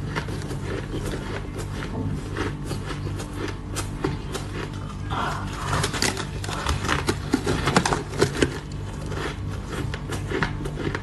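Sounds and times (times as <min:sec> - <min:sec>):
ice being chewed: 0:00.0 - 0:11.0.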